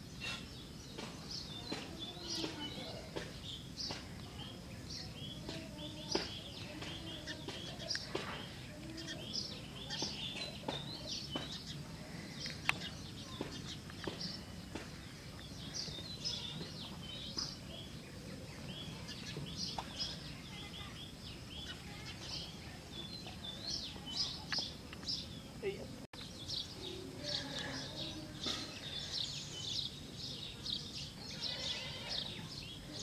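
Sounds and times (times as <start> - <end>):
birds chirping: 0.0 - 33.0
low background noise: 0.0 - 33.0.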